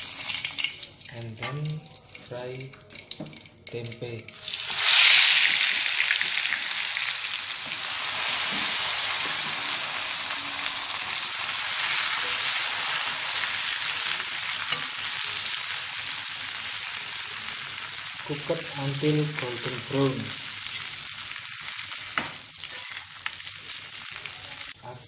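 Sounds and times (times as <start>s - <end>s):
deep-frying sizzle in oil: 0.0s - 24.8s.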